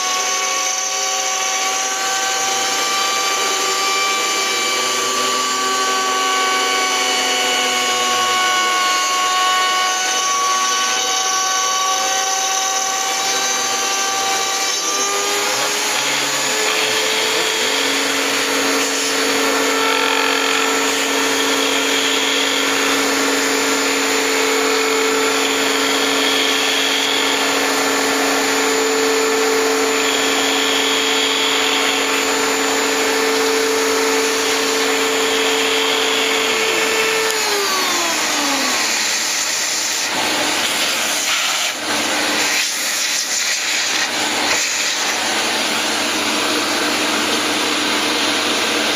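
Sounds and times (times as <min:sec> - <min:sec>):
router spindle whine: 0:00.0 - 0:48.9.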